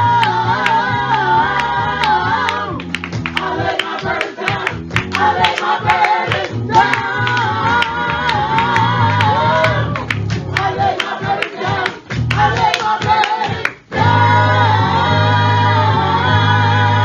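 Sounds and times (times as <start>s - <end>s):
congregation singing gospel: 0.0s - 17.0s.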